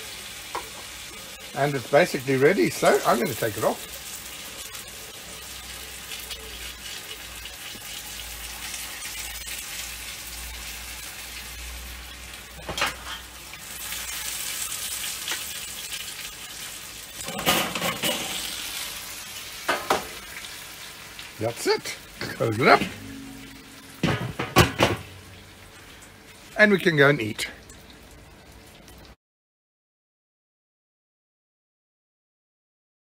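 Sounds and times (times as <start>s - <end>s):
grill sizzling: 0.0s - 29.2s.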